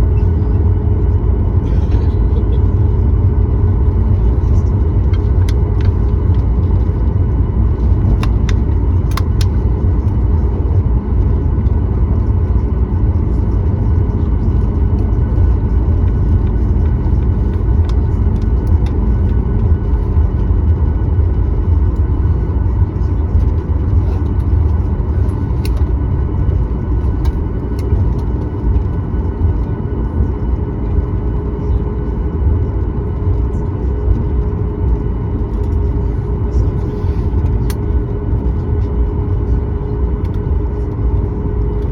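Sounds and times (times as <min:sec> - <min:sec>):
airplane cabin rumble: 0:00.0 - 0:41.9.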